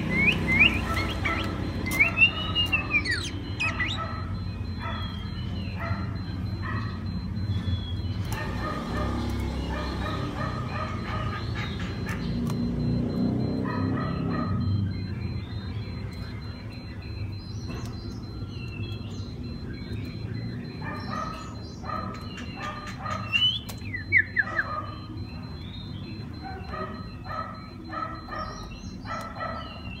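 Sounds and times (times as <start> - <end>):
bird calling: 0.0 - 30.0.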